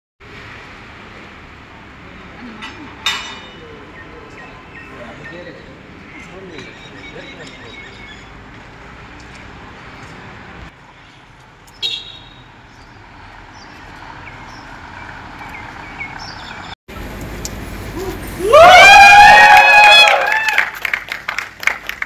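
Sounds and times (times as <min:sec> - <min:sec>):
low hum of traffic: 0:00.2 - 0:22.0.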